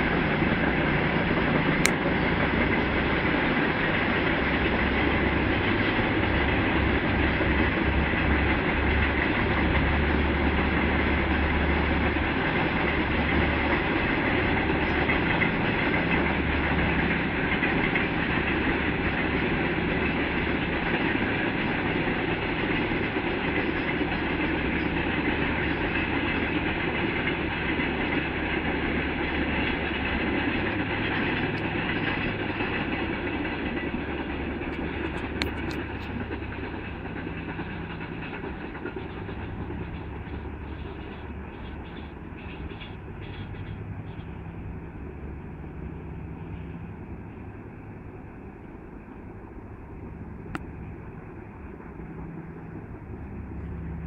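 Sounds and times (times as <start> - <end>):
freight train rolling: 0.0 - 54.0.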